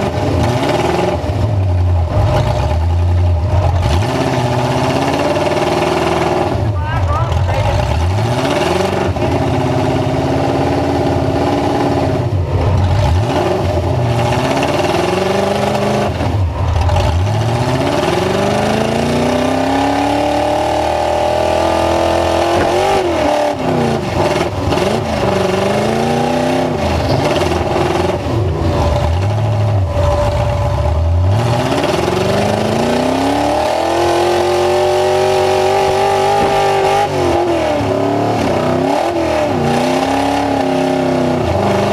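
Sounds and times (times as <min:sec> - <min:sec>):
truck engines revving: 0:00.0 - 0:41.9.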